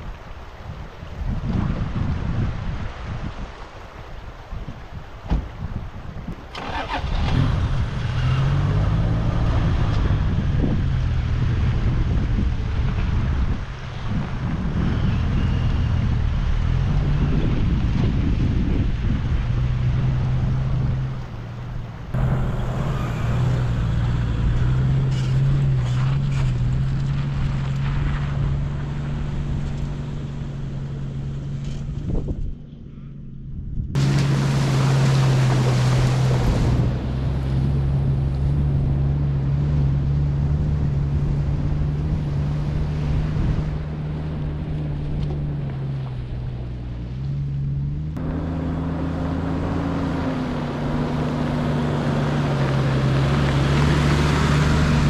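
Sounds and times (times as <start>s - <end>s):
wind buffeting microphone: 0.0s - 55.0s
vehicle engine running: 6.6s - 55.0s.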